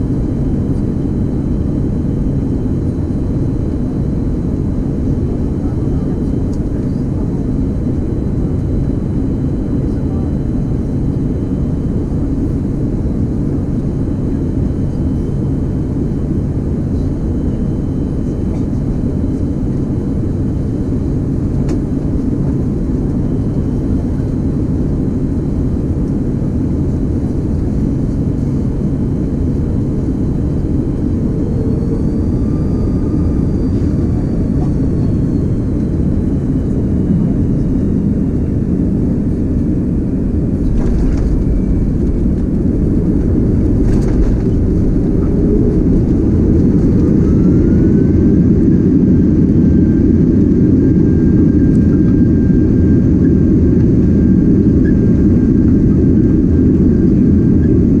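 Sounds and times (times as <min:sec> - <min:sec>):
airplane cabin roar: 0:00.0 - 0:58.0
faint whine: 0:00.0 - 0:58.0.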